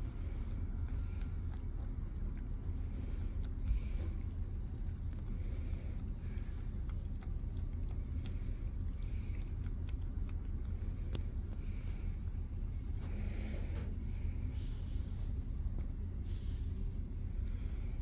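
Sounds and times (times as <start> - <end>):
cat licking and chewing: 0.0 - 18.0
steady low rumble: 0.0 - 18.0.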